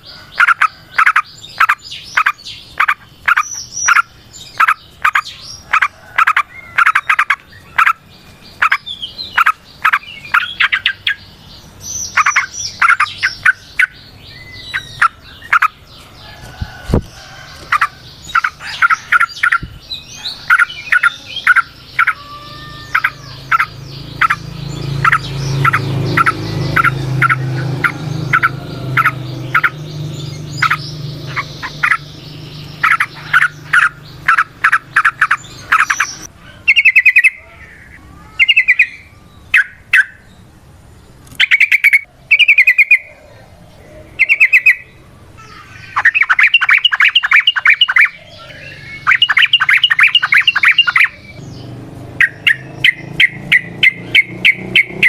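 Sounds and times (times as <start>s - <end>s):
bird trills: 0.0s - 16.6s, 17.5s - 40.5s, 41.3s - 55.0s
bird chirping: 0.0s - 55.0s.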